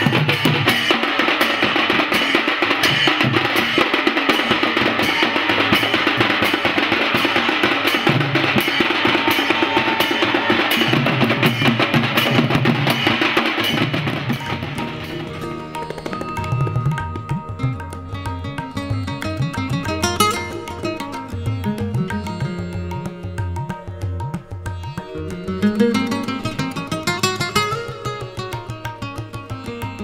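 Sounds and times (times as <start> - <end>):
fast drum-led music: 0.0 - 24.5, 25.3 - 30.0.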